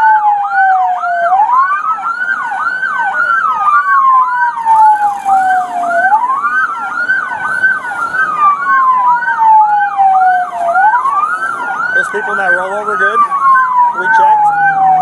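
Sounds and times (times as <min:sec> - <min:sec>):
siren wailing: 0:00.0 - 0:15.0
siren yelping: 0:00.0 - 0:15.0.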